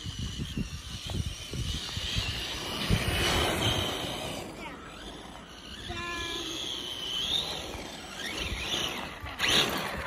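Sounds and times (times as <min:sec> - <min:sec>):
toy truck motor whining: 0:00.0 - 0:10.0.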